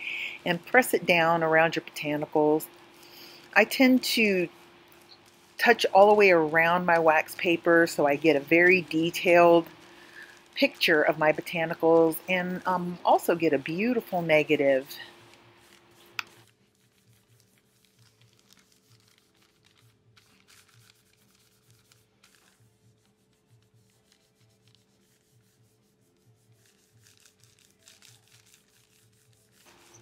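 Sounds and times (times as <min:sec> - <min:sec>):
fingertips rubbing wax paper: 0:00.0 - 0:30.0.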